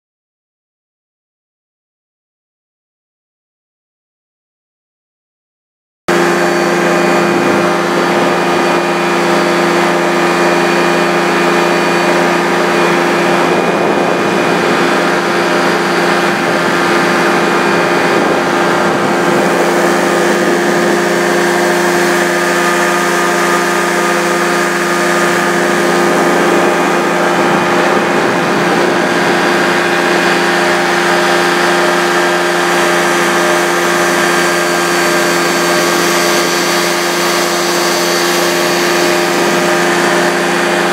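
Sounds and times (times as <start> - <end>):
engine and propeller drone: 6.1 - 40.9.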